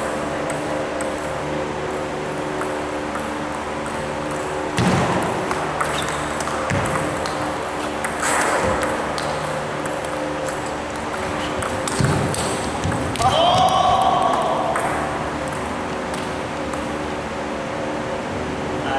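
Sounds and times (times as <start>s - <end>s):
steady hum: 0.0s - 18.9s.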